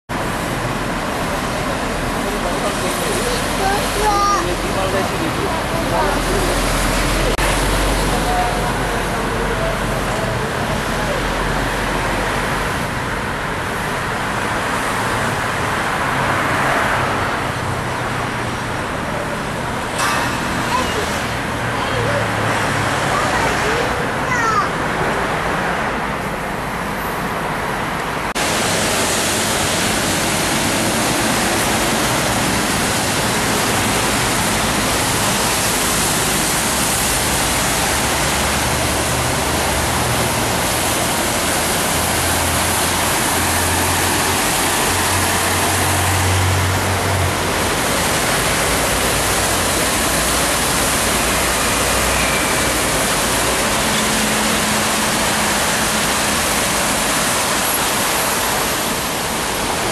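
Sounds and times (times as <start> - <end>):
traffic hiss on wet road: 0.1 - 59.9
truck engine rumble: 0.1 - 59.9.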